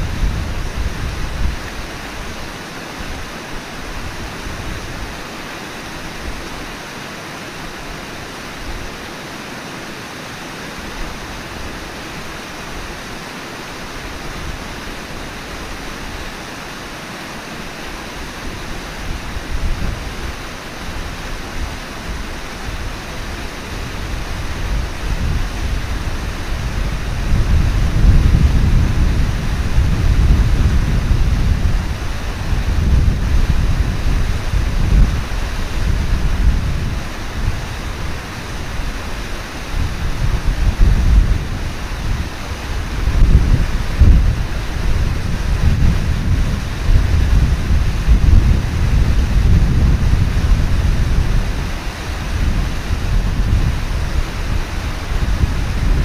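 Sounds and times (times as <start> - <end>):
wind rumbling on microphone: 0.0 - 9.2, 9.9 - 56.0
river water rushing: 0.0 - 56.0.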